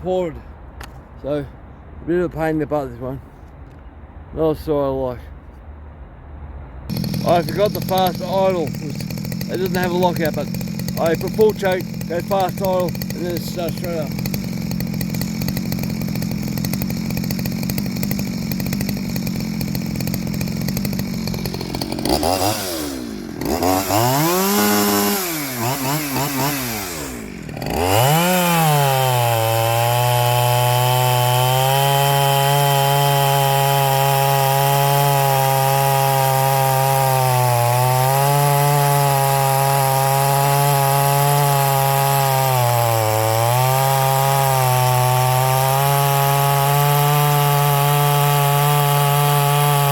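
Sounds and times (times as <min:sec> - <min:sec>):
chainsaw revving: 0:06.9 - 0:49.9.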